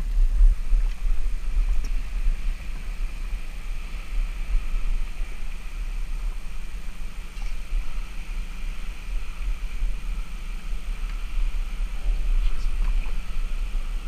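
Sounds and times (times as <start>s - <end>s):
faint steady hiss: 0.0s - 14.0s
wind buffeting microphone: 0.0s - 14.0s.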